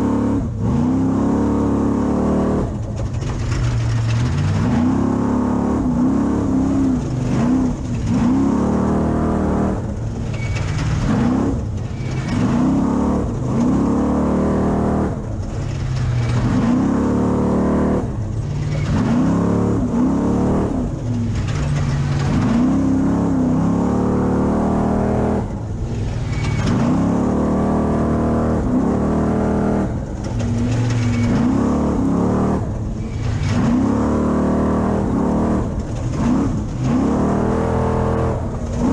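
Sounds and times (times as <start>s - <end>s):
race truck engine revving: 0.0s - 38.9s
truck rumbling over rough ground: 0.0s - 38.9s.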